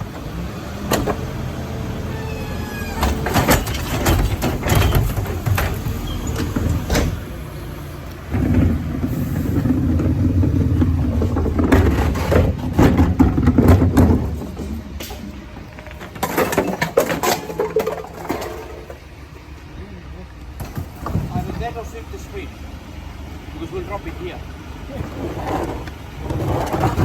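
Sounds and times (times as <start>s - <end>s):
garbage truck engine revving: 0.0s - 27.0s.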